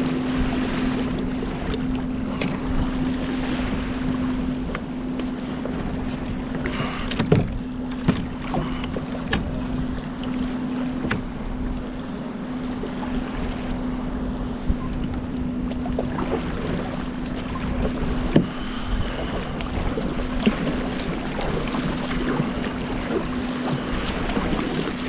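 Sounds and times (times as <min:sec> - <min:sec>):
water washing along hull: 0:00.0 - 0:25.0.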